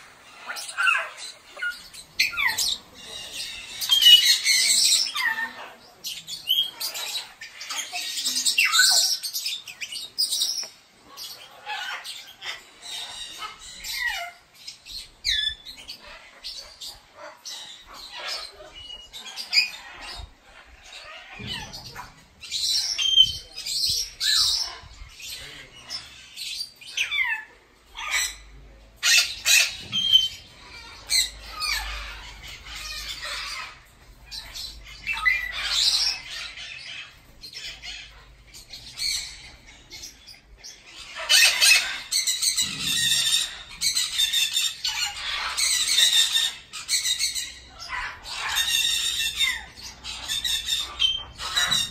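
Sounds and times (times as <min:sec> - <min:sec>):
parrots squawking and screeching: 0:00.0 - 0:51.9.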